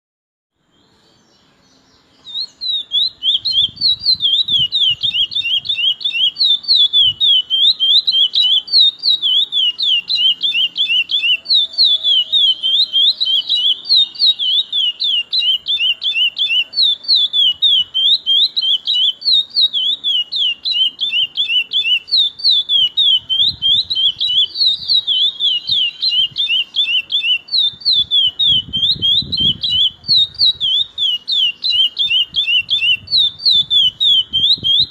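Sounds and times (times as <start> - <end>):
finch singing whistled song: 0.6 - 34.9.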